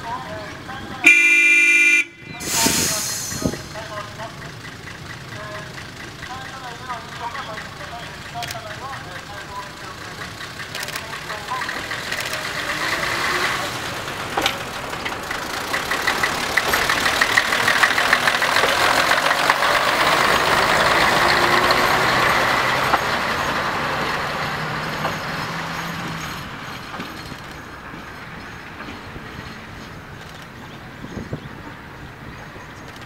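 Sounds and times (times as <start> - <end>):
railcar diesel engine: 0.0 - 33.0.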